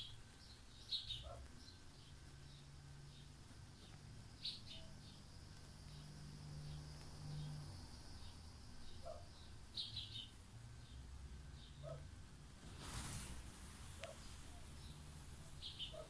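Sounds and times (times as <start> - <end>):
faint high bird chirps: 0.0 - 11.0, 14.1 - 16.0
low steady hum: 0.0 - 16.0.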